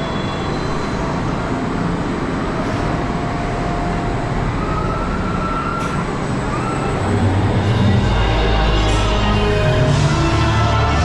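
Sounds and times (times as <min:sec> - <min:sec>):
coaster train rumbling on track: 0:00.0 - 0:11.0.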